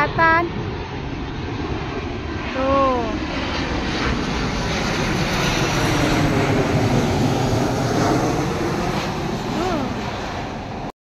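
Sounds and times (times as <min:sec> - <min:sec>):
jet airliner flying overhead: 0:00.0 - 0:10.9.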